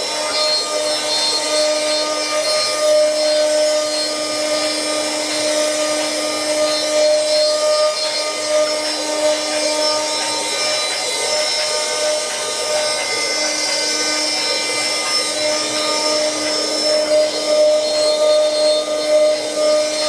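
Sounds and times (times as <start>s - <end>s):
cutter hissing on wood: 0.0s - 20.0s
spindle motor whine: 0.0s - 20.0s.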